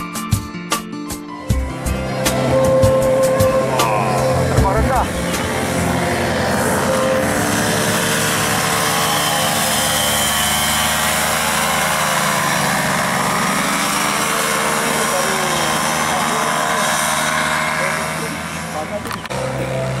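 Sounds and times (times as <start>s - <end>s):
paramotor engine and propeller: 1.5s - 20.0s.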